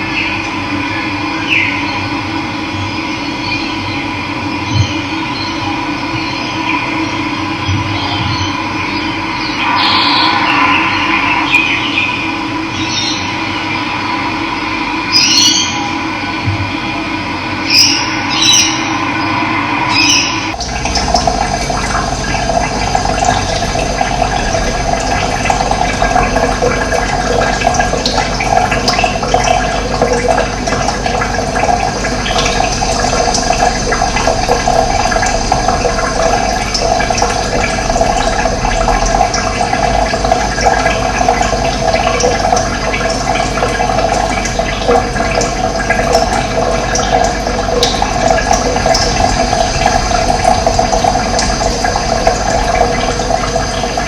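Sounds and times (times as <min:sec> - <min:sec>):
running water: 0:04.6 - 0:16.8, 0:17.6 - 0:54.0.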